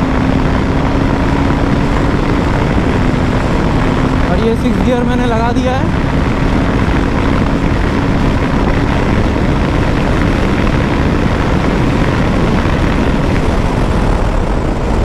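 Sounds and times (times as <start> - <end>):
motorcycle engine running flat out: 0.0 - 15.0
wind noise over microphone: 0.0 - 15.0.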